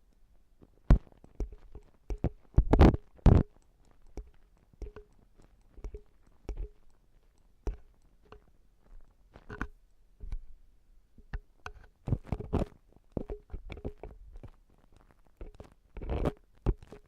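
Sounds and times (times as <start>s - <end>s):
tools scraping inside ear model: 0.9s - 10.4s, 11.4s - 17.0s.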